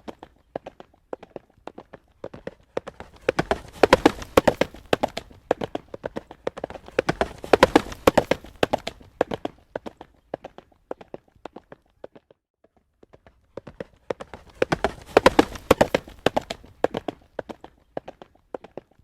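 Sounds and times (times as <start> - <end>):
hooves clip-clopping on road: 0.0 - 19.0.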